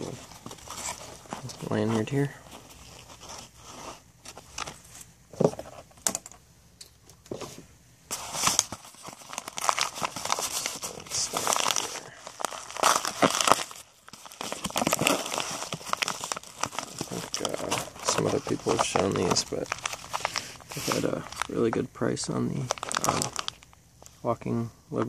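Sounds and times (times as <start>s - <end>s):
paper crinkling and tearing: 0.0s - 5.0s, 8.1s - 23.7s.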